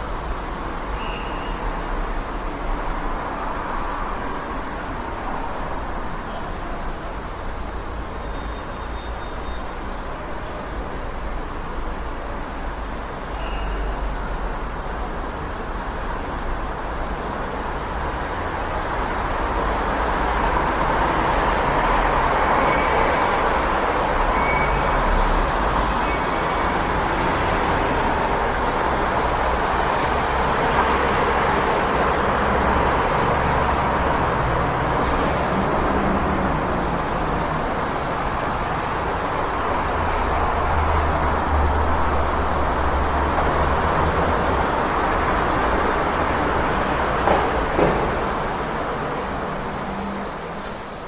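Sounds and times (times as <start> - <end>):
passing vehicles: 0.0 - 51.0.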